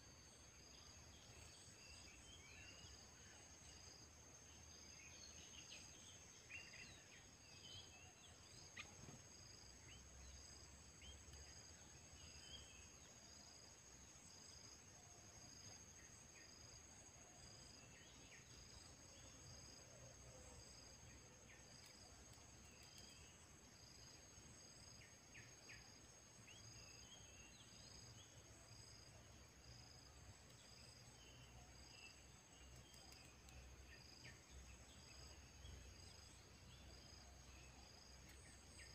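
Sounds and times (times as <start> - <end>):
soft insect chirp: 0.0 - 38.9.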